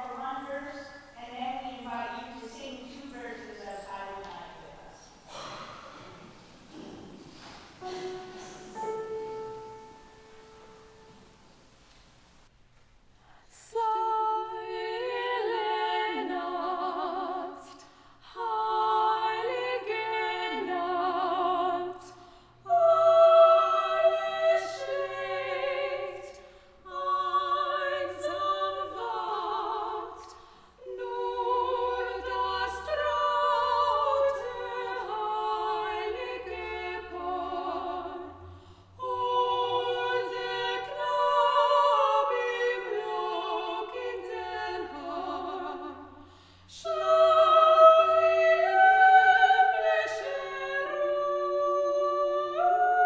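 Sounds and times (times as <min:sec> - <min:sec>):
women singing in harmony: 0:00.0 - 0:11.5, 0:13.5 - 0:53.0.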